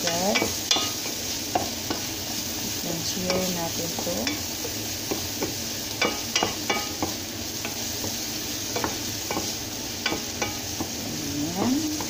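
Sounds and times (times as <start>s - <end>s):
spatula scraping and tapping pan: 0.0s - 2.4s, 3.2s - 11.0s
onions sizzling in hot oil: 0.0s - 12.0s.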